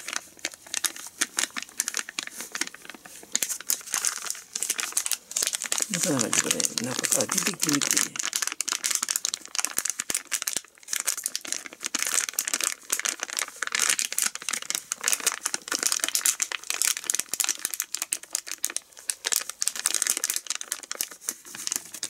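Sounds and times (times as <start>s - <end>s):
plastic pouch crinkling: 0.0s - 22.0s.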